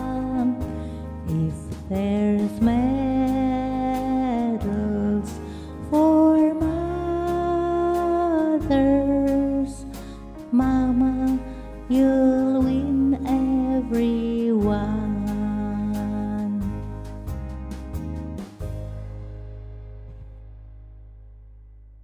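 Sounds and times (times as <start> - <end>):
slow gospel song: 0.0 - 19.6.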